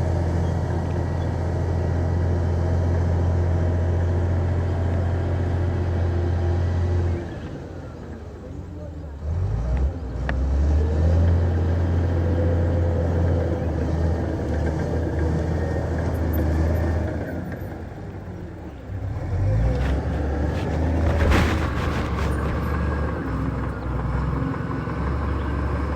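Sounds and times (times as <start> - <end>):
diesel engine droning: 0.0 - 25.9.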